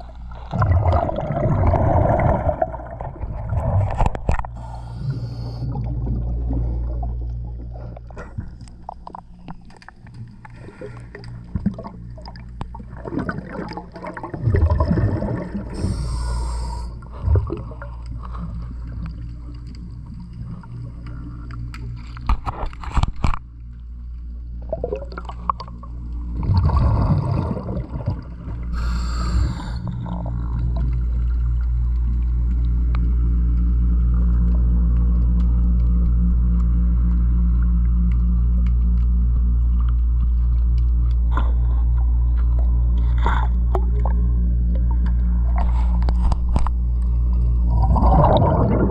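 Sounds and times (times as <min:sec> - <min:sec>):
bubbling and rushing water: 0:00.0 - 0:48.9
underwater machine hum: 0:00.0 - 0:48.9.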